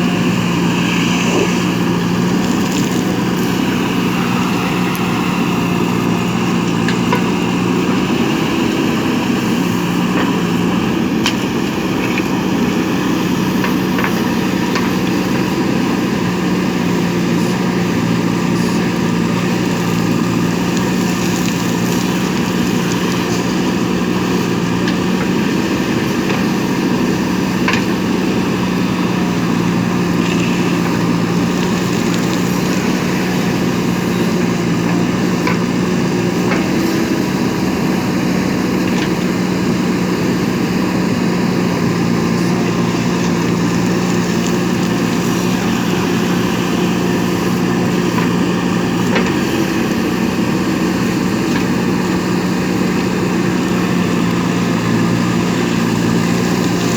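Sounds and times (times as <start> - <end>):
diesel engine running steadily: 0.0 - 56.9.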